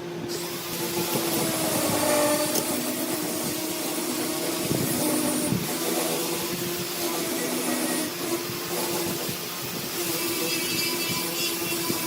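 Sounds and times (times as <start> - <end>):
machine humming and hissing: 0.0 - 12.0.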